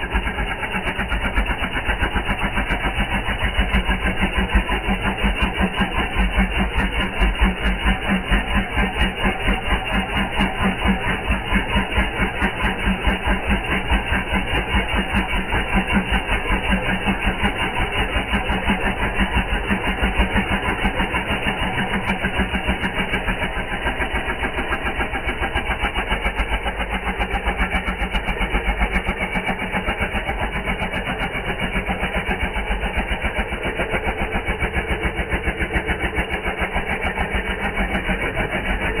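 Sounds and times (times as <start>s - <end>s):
air compressor pulsing: 0.0s - 39.0s.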